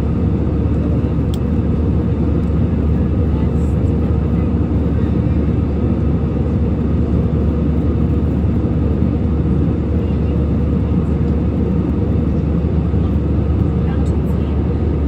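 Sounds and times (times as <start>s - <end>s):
airliner engine drone: 0.0s - 15.0s.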